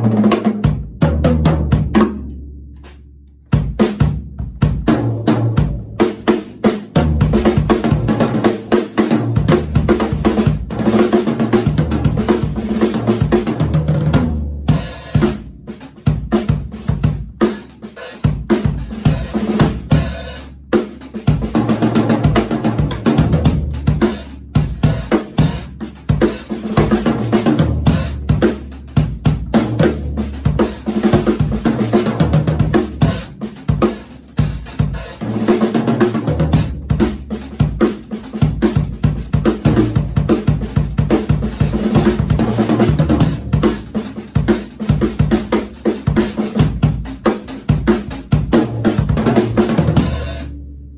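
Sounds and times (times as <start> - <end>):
drum kit playing a beat: 0.0 - 50.6.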